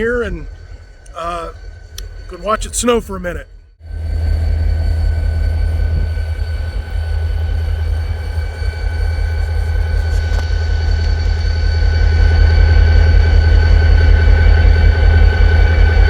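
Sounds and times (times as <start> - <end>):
diesel locomotive idling: 0.0 - 16.0
thin whine: 0.0 - 16.0.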